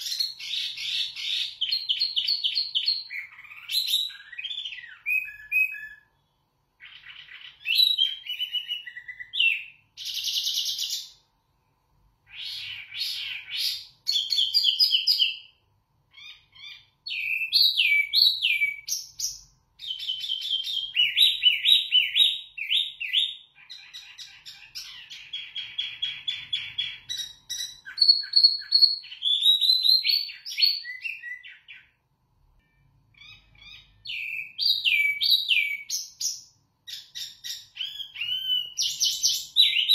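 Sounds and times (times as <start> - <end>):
songbird singing: 0.0 - 11.4, 12.3 - 39.9.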